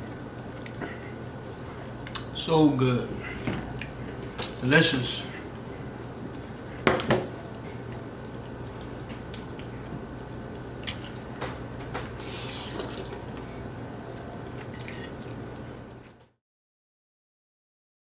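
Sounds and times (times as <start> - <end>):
low room hum: 0.0 - 16.4.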